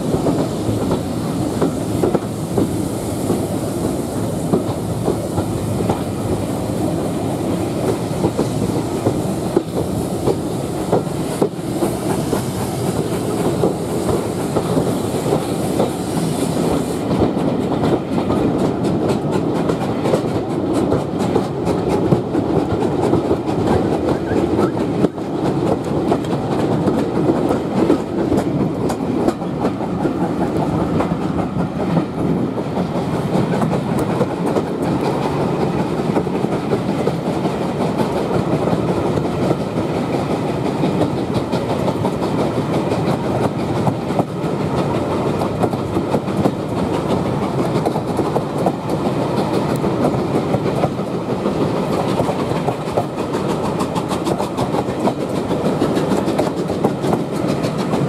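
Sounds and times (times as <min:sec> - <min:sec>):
train wheels clicking over track: 0:00.0 - 0:58.0.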